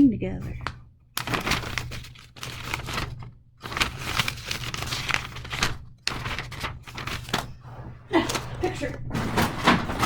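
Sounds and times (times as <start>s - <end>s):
paper rustling and crinkling: 0.5s - 10.0s.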